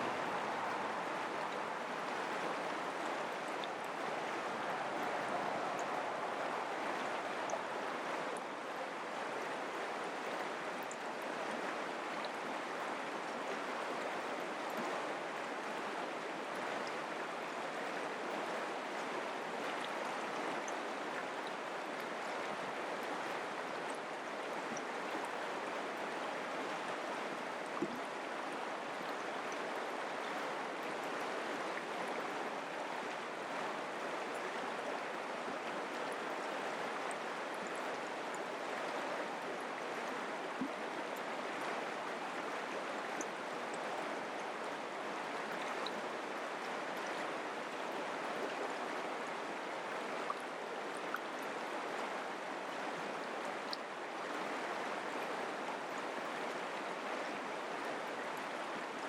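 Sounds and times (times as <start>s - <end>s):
creek water flowing: 0.0s - 59.0s
faint water splashes: 0.0s - 59.0s.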